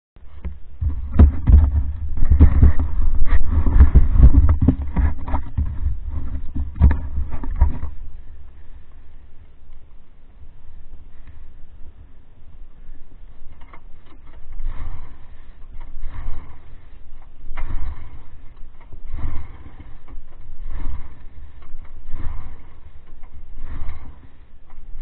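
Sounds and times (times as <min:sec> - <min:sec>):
muffled snowmobile engine running: 0:00.2 - 0:25.0.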